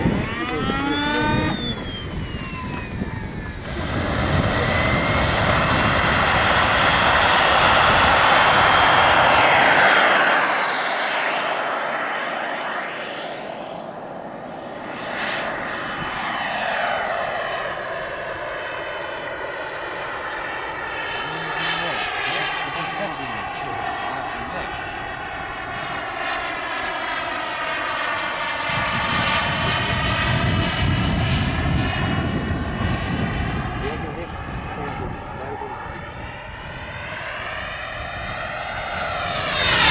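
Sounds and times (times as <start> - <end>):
model jet turbine whine: 0.0 - 39.9.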